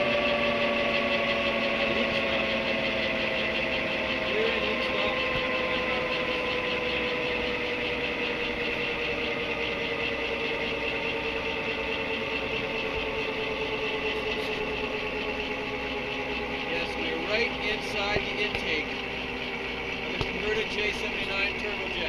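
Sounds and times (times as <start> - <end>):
turbojet engine running down: 0.0 - 22.0.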